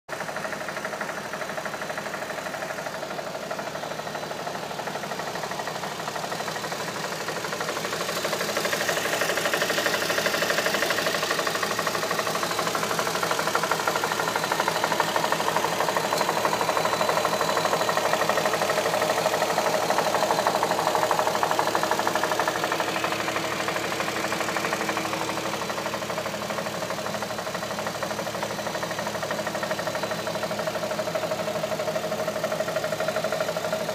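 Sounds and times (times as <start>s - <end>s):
car engine running: 0.1s - 33.9s
fast ticking engine knock: 0.1s - 33.9s.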